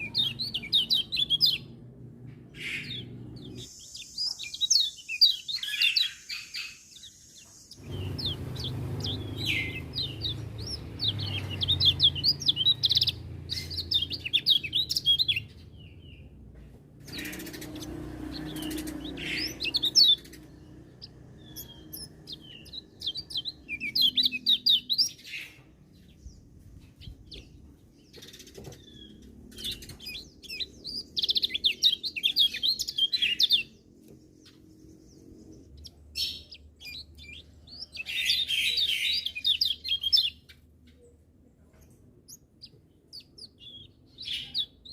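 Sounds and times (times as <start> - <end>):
songbird twittering chirps: 0.0 - 44.9.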